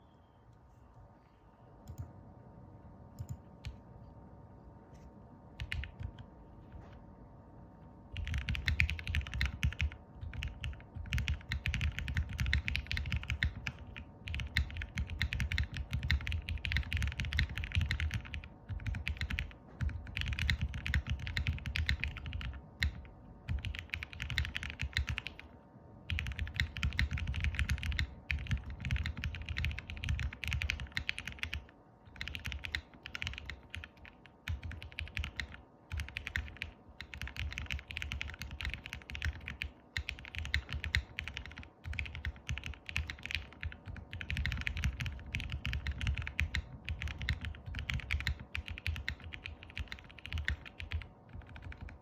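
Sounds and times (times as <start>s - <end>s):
mechanical keyboard typing: 1.9s - 2.1s, 3.2s - 3.8s, 5.6s - 6.3s, 8.1s - 25.5s, 26.1s - 52.0s.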